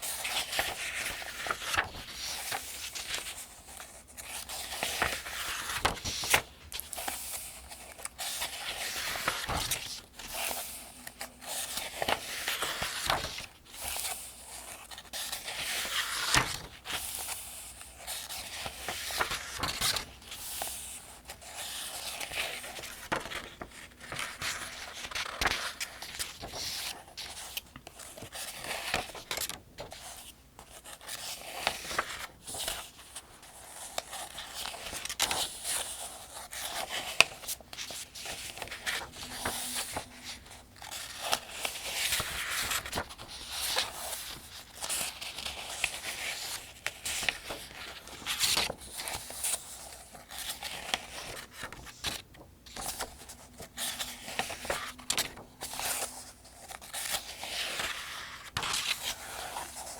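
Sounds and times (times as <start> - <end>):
paper pages turning: 0.0 - 59.9.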